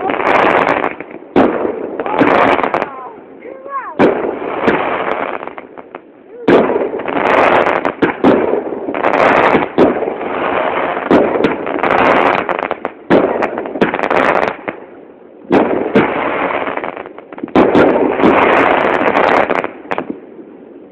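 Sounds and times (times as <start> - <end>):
fireworks firing rapid bangs: 0.0 - 14.9, 15.5 - 20.3.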